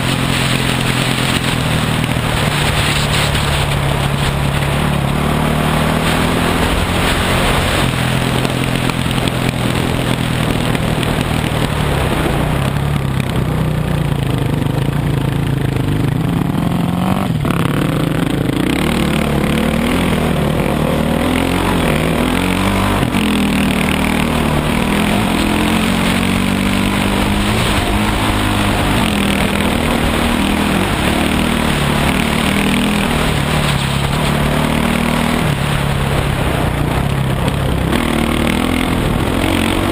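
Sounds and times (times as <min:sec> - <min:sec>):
dirt bike engine revving: 0:00.0 - 0:39.9
steady rush of noise: 0:00.0 - 0:39.9.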